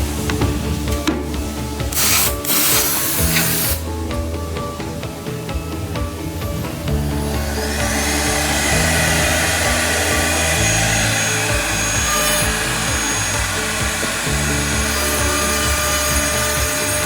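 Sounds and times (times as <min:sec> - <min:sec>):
background music with low bass: 0:00.0 - 0:17.0.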